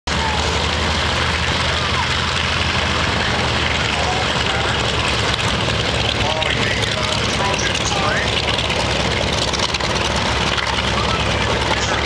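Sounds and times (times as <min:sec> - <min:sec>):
propeller noise: 0:00.1 - 0:12.0
radial aircraft engine rumbling: 0:00.1 - 0:12.0.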